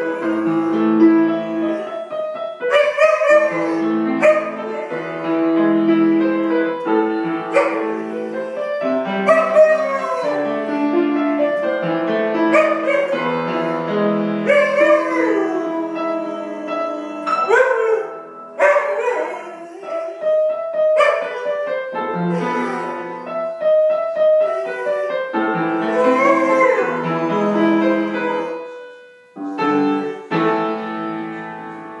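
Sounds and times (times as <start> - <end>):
dog howling: 0.0 - 6.5, 7.4 - 10.9, 12.5 - 28.8
piano music: 0.0 - 32.0.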